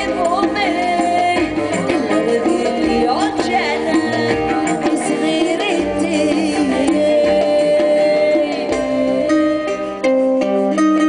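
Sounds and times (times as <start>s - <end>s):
woman singing: 0.0s - 10.3s
instrumental accompaniment: 0.0s - 11.0s.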